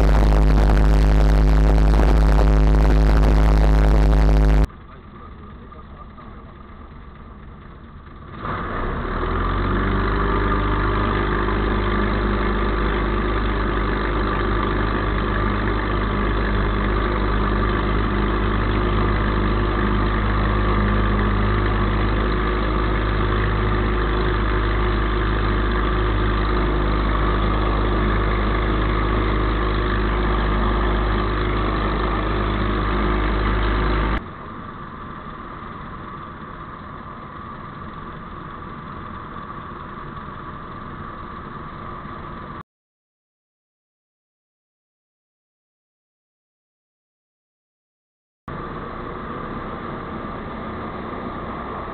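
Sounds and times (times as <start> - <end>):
light aircraft engine drone: 0.0 - 42.6, 48.5 - 51.9.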